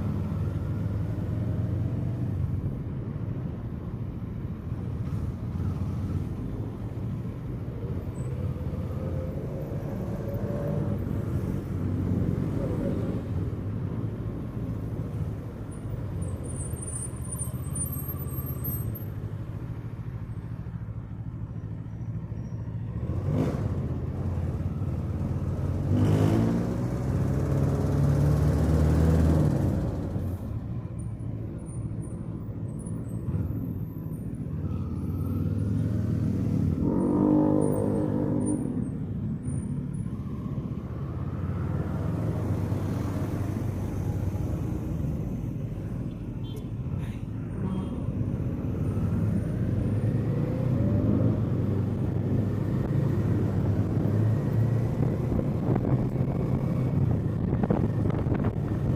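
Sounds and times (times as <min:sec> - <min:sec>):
street traffic: 0:00.0 - 0:58.9.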